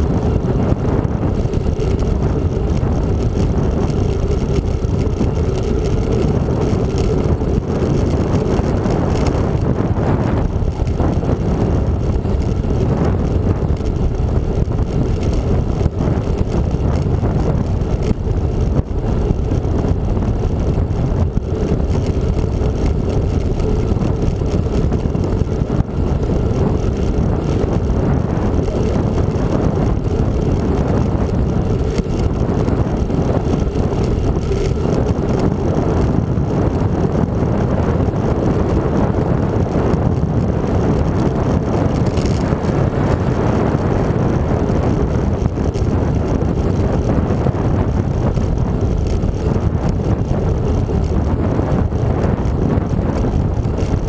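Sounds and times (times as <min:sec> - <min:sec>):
bicycle road noise: 0:00.0 - 0:54.0
wind rushing over microphone: 0:00.0 - 0:54.0.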